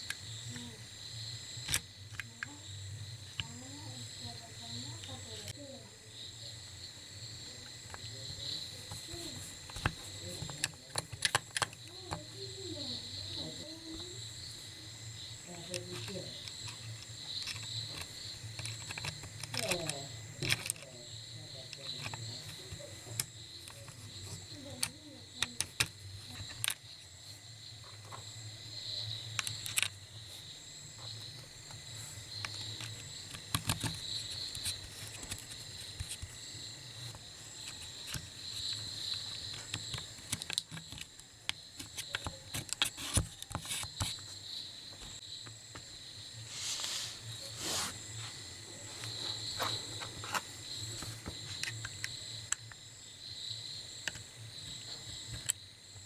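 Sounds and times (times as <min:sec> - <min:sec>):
high insect trilling: 0:00.0 - 0:55.7.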